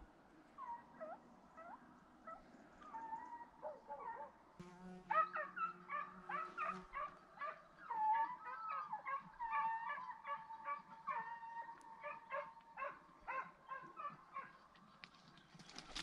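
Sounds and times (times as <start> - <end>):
hunting dogs yelping: 0.6 - 4.4, 5.1 - 14.6.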